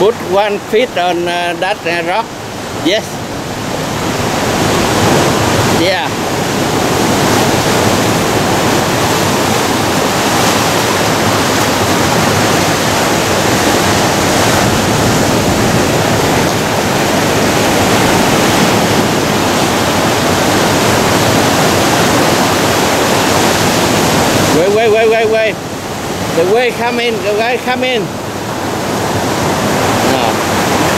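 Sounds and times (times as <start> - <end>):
ocean surf breaking on rocks: 0.0 - 30.9.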